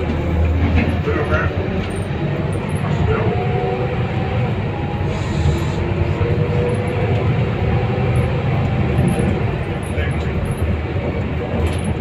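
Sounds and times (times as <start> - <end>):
bus engine and road noise: 0.0 - 12.0.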